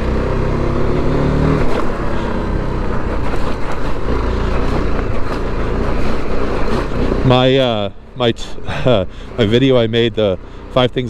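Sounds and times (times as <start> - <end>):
motorcycle engine running: 0.0 - 11.0
tyres on gravel: 1.4 - 11.0.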